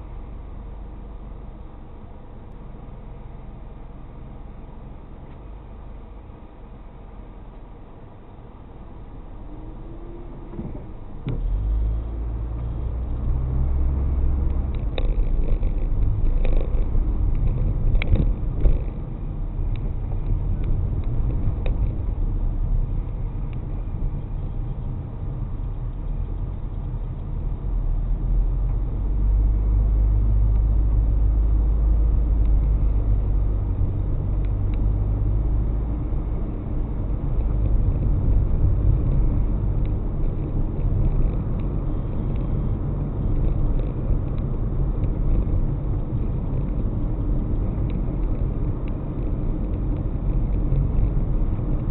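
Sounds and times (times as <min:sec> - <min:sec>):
road and engine rumble: 0:00.0 - 0:51.9.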